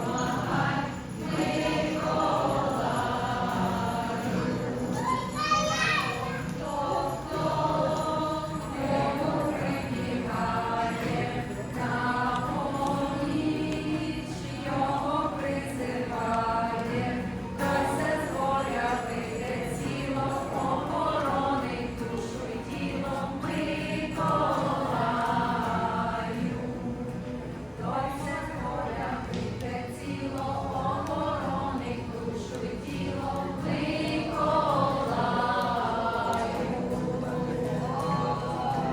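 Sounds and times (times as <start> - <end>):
choir singing: 0.0 - 5.5, 6.2 - 38.9.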